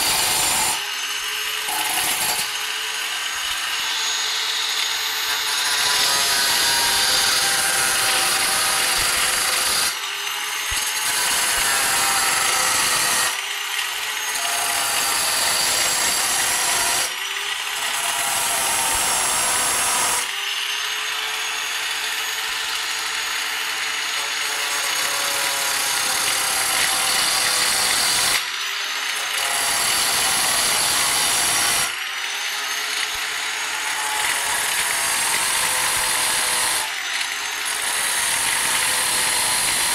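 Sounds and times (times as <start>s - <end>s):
electric drill grinding coconut: 0.0s - 39.9s.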